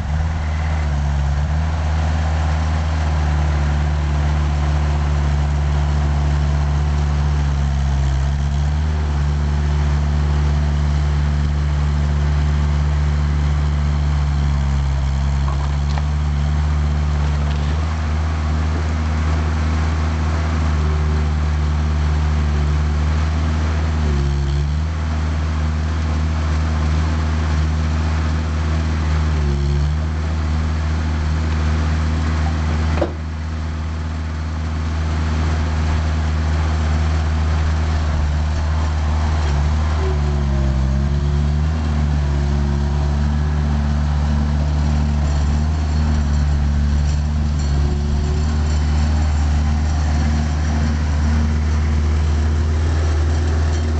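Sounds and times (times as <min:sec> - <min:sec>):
loader engine running: 0:00.0 - 0:53.9.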